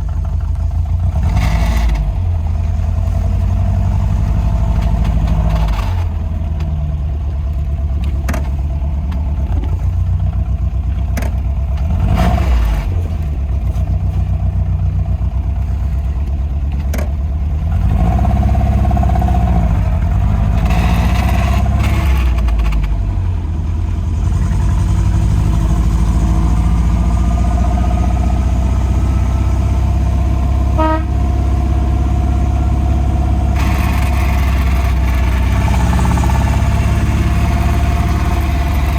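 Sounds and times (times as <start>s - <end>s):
car engine driving: 0.0s - 38.9s.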